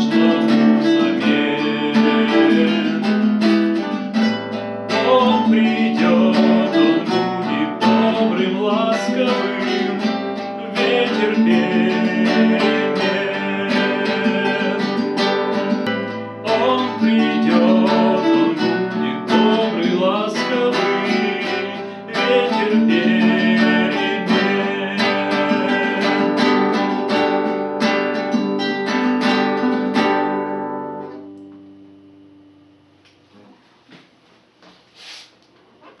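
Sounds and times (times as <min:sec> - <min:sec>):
acoustic guitar chords: 0:00.0 - 0:33.6.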